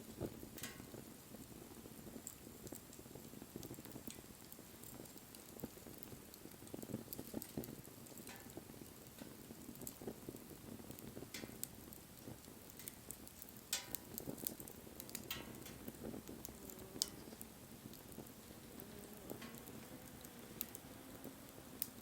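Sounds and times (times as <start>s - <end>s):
wood fire crackling: 0.0s - 22.0s
sharp pops and snaps: 0.1s - 22.0s.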